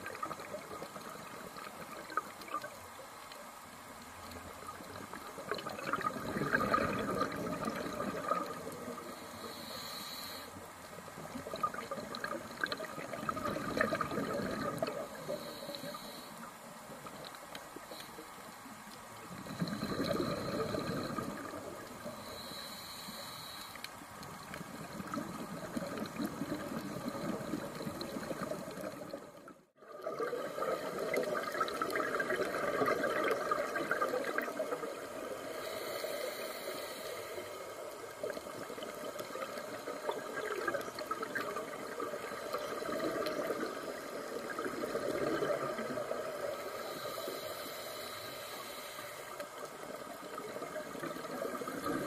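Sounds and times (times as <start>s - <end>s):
underwater bubbling: 0.0s - 52.0s.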